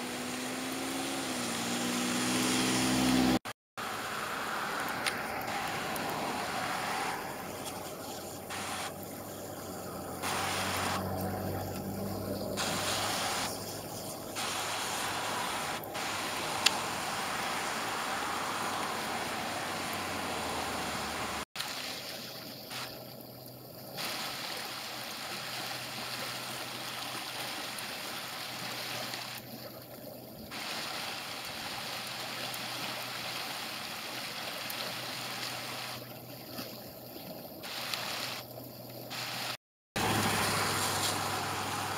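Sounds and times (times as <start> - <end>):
creek water flowing: 0.0 - 41.9.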